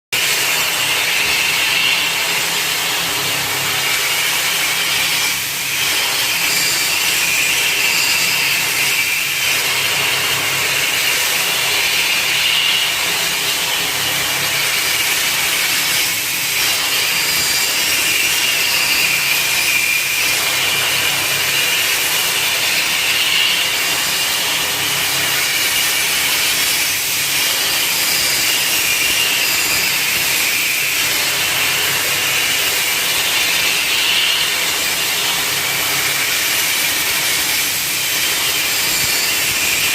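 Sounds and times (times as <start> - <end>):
cnc machine whine: 0.2 - 39.9.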